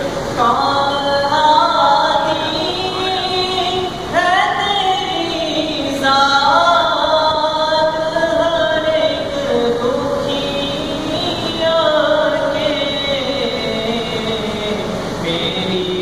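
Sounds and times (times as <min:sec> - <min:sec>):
man singing devotional song: 0:00.4 - 0:16.0.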